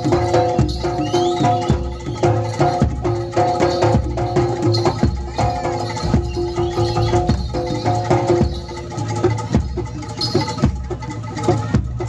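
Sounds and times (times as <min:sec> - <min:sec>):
hand drum strokes: 0:00.0 - 0:12.0
ringing metal percussion notes: 0:00.0 - 0:12.0.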